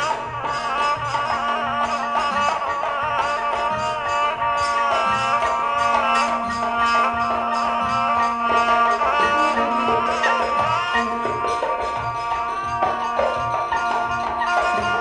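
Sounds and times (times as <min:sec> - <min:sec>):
hand drum beat: 0:00.0 - 0:15.0
wavering folk melody over drone: 0:00.0 - 0:15.0.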